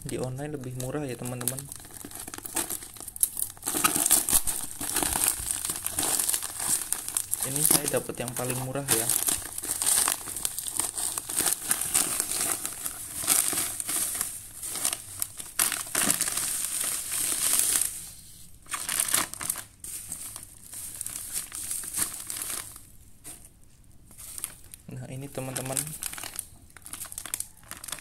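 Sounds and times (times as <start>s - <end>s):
plastic packaging crinkling: 0.0s - 28.0s.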